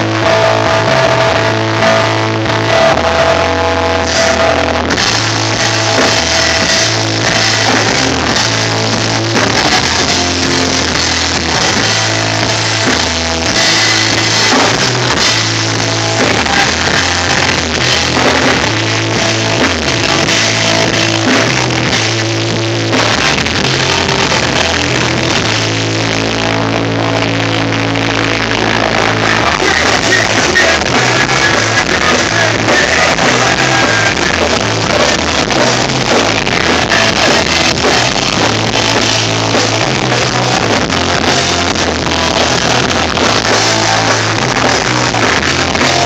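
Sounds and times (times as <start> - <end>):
drum kit with cymbals: 0.0 - 26.4, 29.2 - 46.0
bass guitar: 0.0 - 46.0
electric guitar: 0.0 - 46.0.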